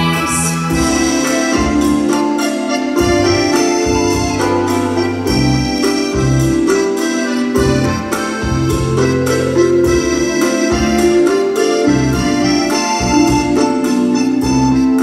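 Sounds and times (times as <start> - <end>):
bass line: 0.0 - 15.0
keyboard melody: 0.0 - 15.0
steady beat: 0.0 - 15.0.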